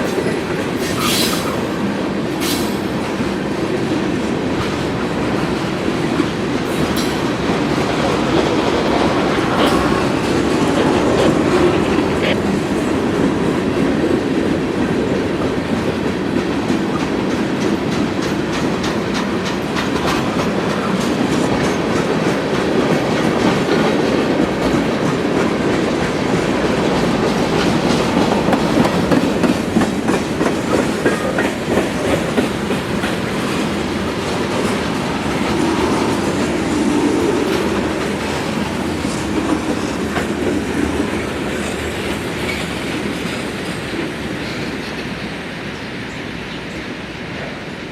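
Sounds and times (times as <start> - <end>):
wheels clacking over rail joints: 0.0 - 45.4
freight train rolling past: 0.0 - 47.9.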